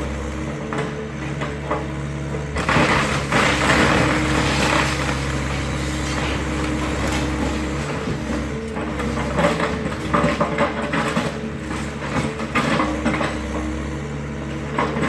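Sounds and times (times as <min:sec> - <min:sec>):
demolition debris crunching and breaking: 0:00.0 - 0:15.0
excavator engine running: 0:00.0 - 0:15.0.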